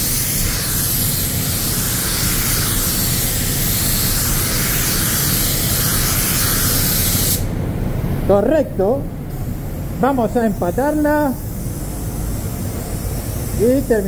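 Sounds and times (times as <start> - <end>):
spray gun hissing: 0.0 - 7.5, 9.3 - 14.0.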